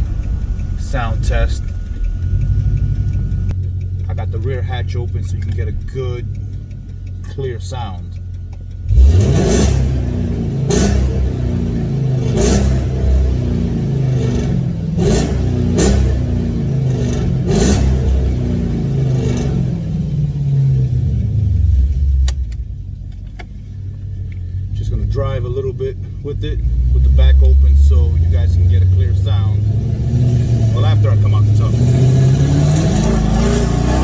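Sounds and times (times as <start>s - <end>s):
car engine accelerating hard: 0.0s - 34.0s
exhaust cracks: 0.0s - 34.0s.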